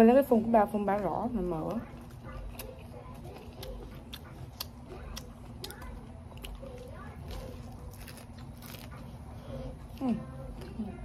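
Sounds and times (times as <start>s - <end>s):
crunchy food being chewed: 1.5s - 11.0s.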